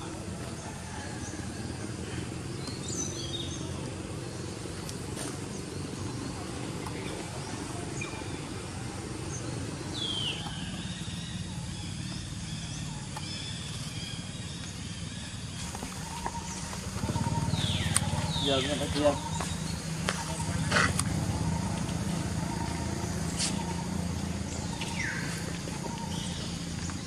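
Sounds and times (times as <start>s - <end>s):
outdoor background rumble: 0.0s - 27.0s.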